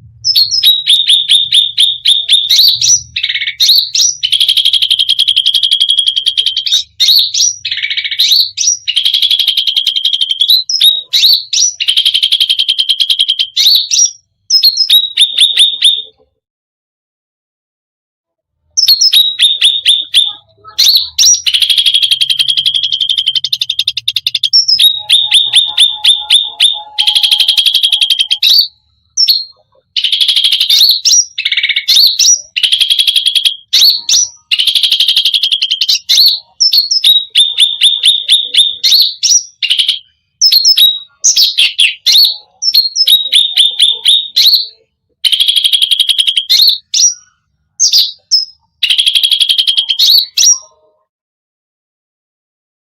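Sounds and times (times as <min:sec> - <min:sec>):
songbird singing rapid chirps and trills: 0:00.3 - 0:16.2, 0:18.8 - 0:50.8.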